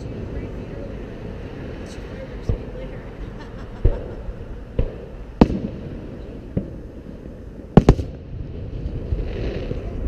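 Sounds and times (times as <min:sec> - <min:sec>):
fireworks booming: 0:00.0 - 0:10.0.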